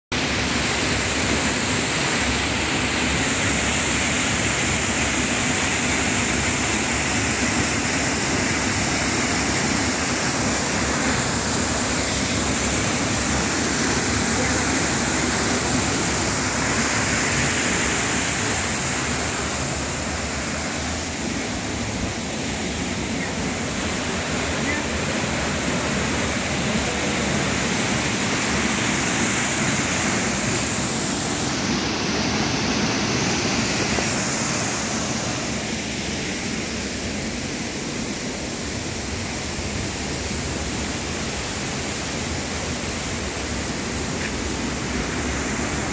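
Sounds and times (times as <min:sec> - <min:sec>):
waterfall rushing over rock: 0:00.1 - 0:45.9.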